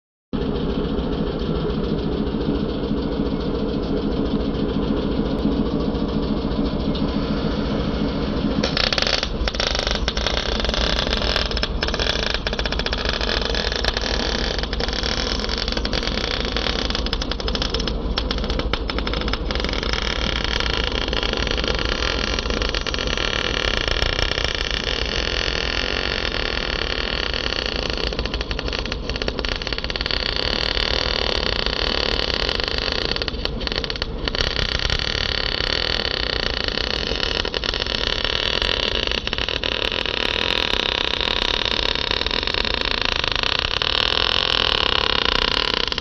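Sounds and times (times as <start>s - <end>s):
engine running: 0.4s - 46.0s
welding arc crackling: 8.6s - 46.0s.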